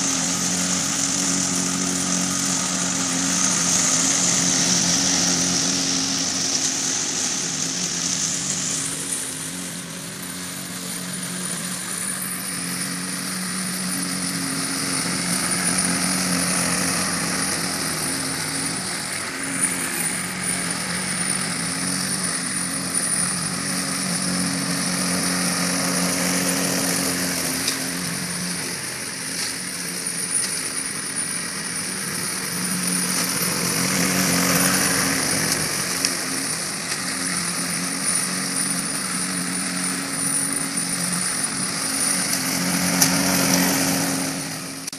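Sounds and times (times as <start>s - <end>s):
small motor running: 0.0s - 44.9s.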